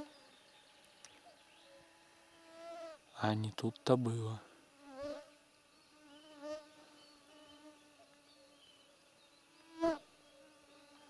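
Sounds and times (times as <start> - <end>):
flying insects buzzing: 0.0 - 11.0.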